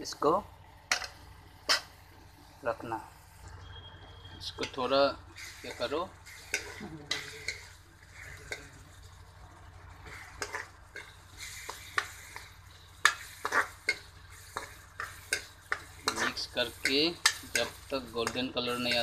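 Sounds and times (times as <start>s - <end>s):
vegetables sizzling in hot oil: 0.0s - 19.0s
metal spatula scraping a wok: 0.9s - 2.0s, 3.7s - 19.0s.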